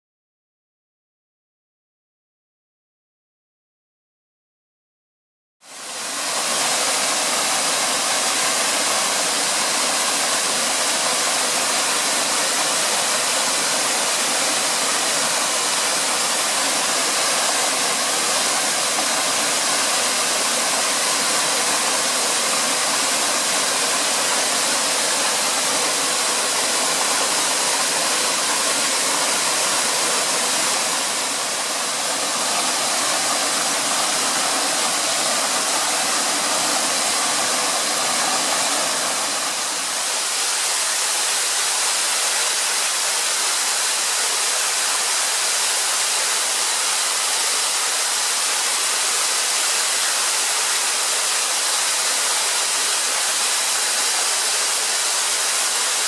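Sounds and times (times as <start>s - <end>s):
waterfall rushing: 5.7s - 56.0s.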